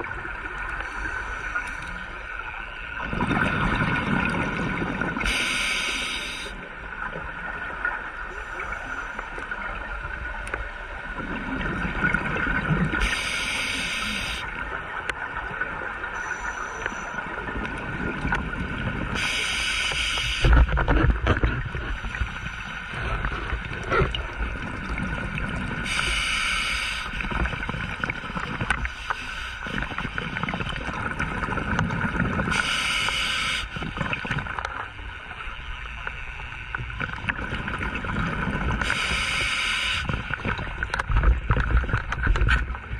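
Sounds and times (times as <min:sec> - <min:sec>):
exhaled bubbles underwater: 0:00.0 - 0:29.0, 0:29.6 - 0:35.4, 0:36.5 - 0:42.9
underwater rumble: 0:00.0 - 0:42.9.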